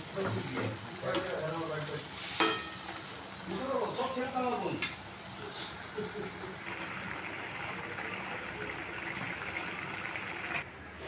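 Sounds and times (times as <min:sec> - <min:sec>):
gravy bubbling and sizzling: 0:00.0 - 0:10.6.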